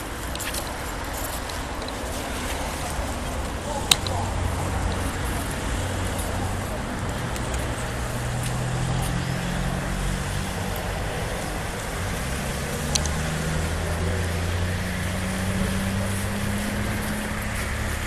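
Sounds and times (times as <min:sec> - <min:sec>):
car engine humming: 0:00.0 - 0:18.0
traffic noise: 0:00.0 - 0:18.0.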